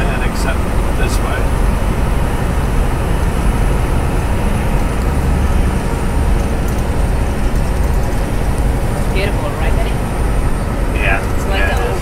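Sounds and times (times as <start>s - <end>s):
truck engine and tyres rumbling: 0.0s - 12.0s.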